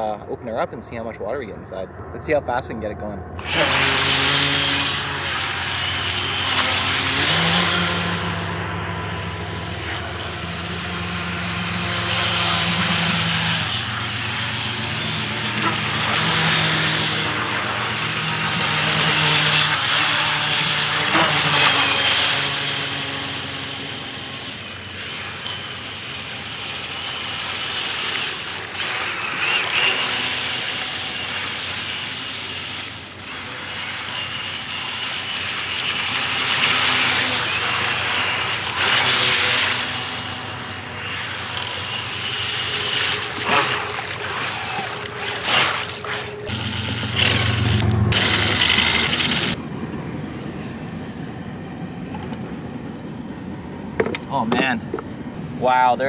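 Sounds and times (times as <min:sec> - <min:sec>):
electric motor whine: 0:03.3 - 0:49.6.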